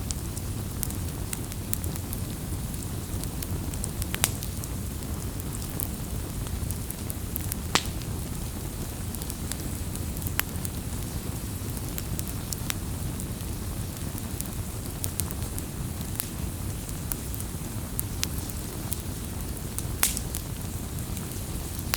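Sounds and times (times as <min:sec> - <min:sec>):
campfire flame rumble: 0:00.0 - 0:21.9
fire crackles and pops: 0:00.0 - 0:21.9.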